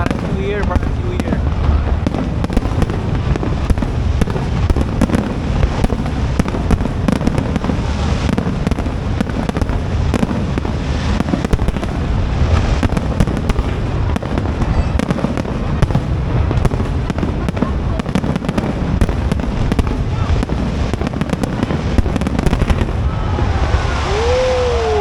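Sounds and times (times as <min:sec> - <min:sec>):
low rumble: 0:00.0 - 0:18.0, 0:22.0 - 0:25.0
firework shell bursts and crackling: 0:00.0 - 0:23.1.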